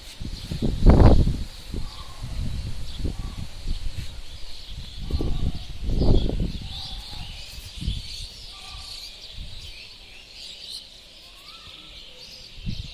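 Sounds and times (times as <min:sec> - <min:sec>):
birds chirping chorus: 0:00.0 - 0:12.9.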